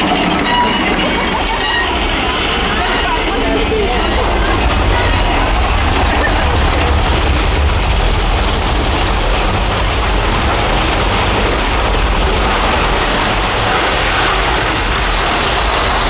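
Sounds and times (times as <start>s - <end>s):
roller coaster wheels rumbling: 0.0s - 16.0s.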